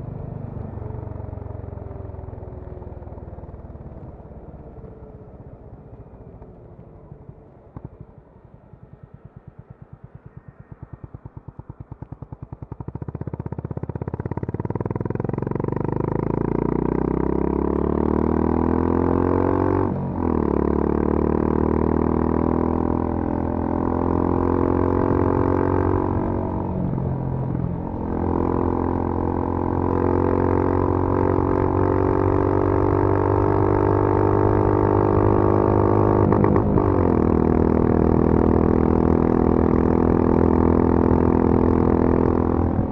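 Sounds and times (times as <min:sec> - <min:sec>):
motorcycle engine revving: 0:07.7 - 0:42.9.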